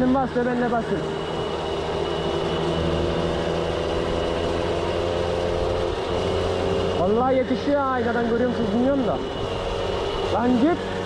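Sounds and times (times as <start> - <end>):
moped engine at full throttle: 0.0 - 11.0.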